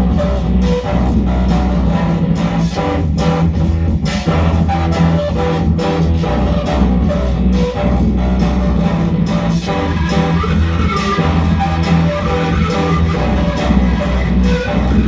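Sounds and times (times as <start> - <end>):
sustained low notes: 0.0 - 15.0.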